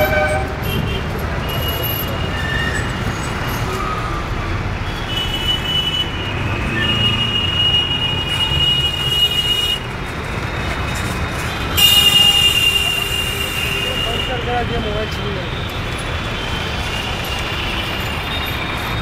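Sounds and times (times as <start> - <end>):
road traffic din: 0.0 - 19.0.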